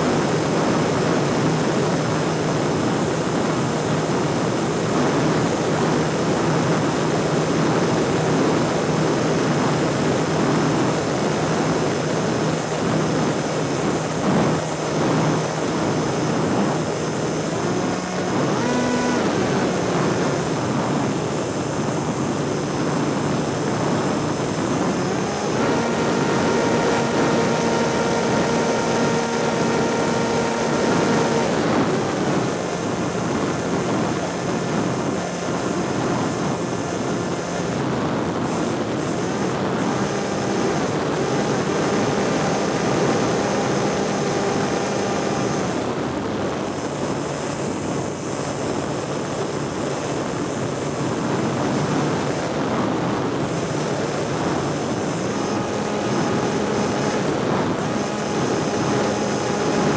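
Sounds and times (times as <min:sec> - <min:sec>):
propeller aircraft engine running: 0:00.0 - 0:59.9
wind noise: 0:00.0 - 0:59.9.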